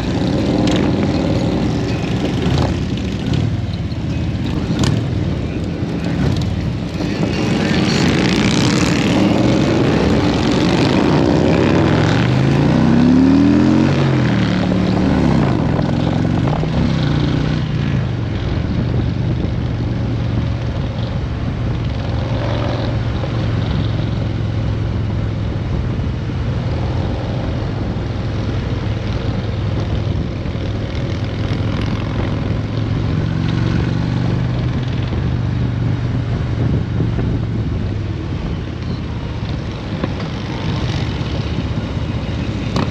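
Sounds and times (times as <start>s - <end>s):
motorcycle engine shifting gears: 0.0s - 42.9s.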